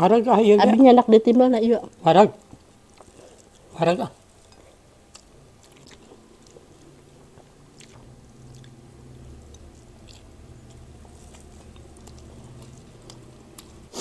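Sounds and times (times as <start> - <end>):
low background hum: 0.0 - 14.0
faint chewing: 1.8 - 14.0.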